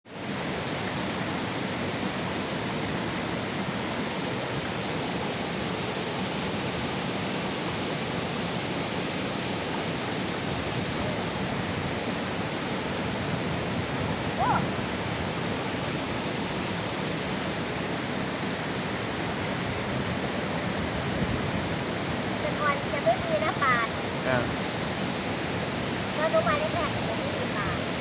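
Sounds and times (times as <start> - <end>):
waterfall pouring into stream: 0.1 - 28.0.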